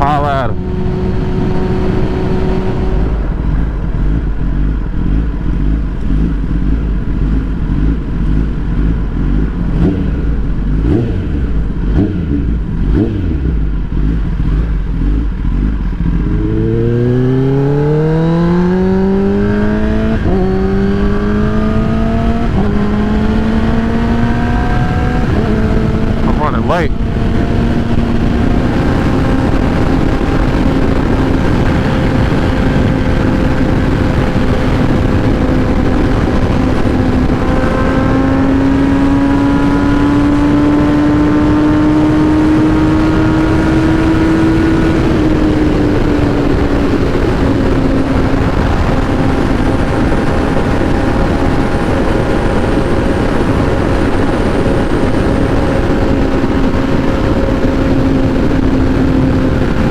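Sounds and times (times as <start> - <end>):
vehicle engine cruising: 0.0 - 59.9
wind and road noise: 0.0 - 59.9.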